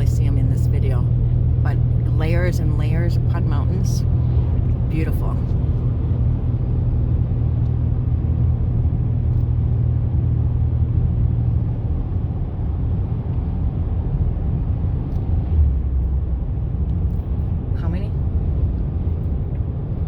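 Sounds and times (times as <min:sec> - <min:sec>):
road and engine noise in vehicle: 0:00.0 - 0:20.0.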